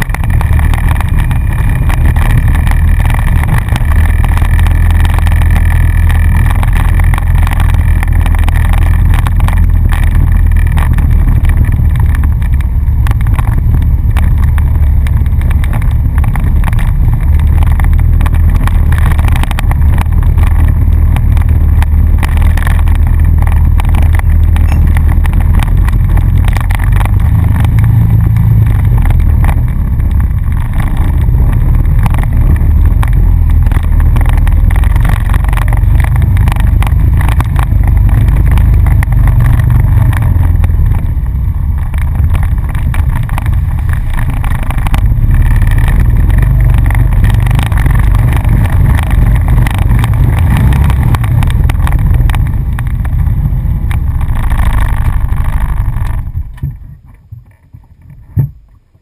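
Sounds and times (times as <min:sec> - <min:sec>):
quad bike engine running: 0:00.0 - 0:58.7.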